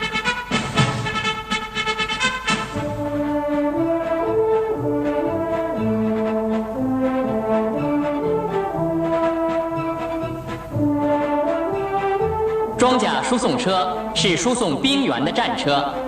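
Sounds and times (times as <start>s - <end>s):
brass band playing a march: 0.0s - 14.7s.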